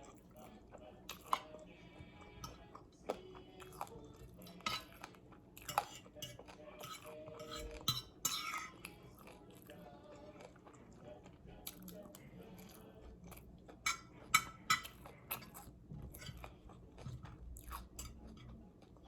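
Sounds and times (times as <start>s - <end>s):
dishes and cutlery clinking: 0.0s - 18.9s
chewing with crunches: 0.0s - 19.0s.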